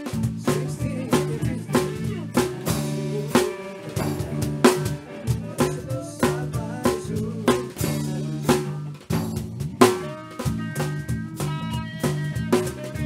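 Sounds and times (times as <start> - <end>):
drum kit beat: 0.0 - 13.0
electric bass notes: 0.0 - 13.0
electric guitar: 0.0 - 13.0
rock band playing: 0.0 - 13.0.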